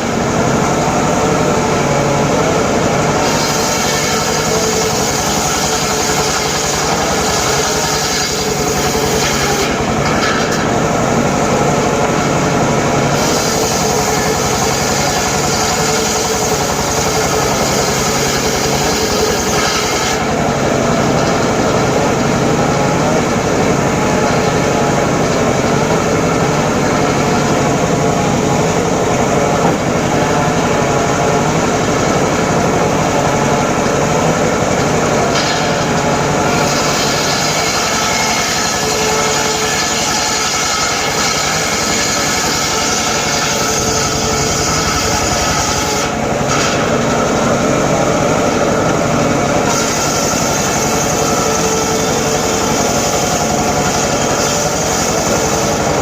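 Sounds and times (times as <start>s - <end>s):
circular saw cutting timber: 0.0s - 56.0s.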